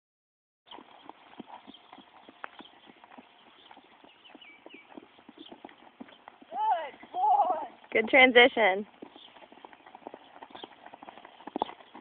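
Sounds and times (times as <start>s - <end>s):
horse hoofbeats on sand: 0.7s - 12.0s.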